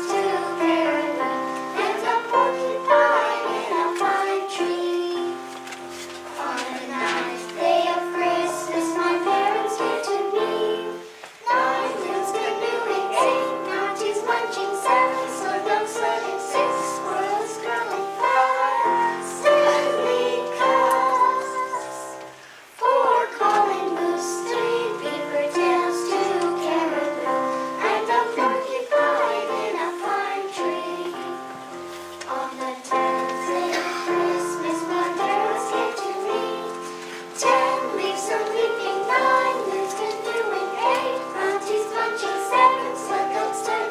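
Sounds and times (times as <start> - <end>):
children singing: 0.0 - 43.9
musical accompaniment: 0.0 - 43.9.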